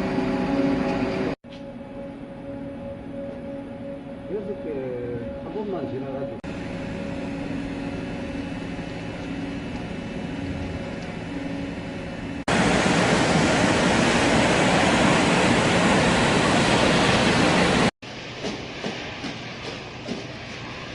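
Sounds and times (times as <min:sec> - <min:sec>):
machinery humming with steady tones: 0:00.0 - 0:20.9.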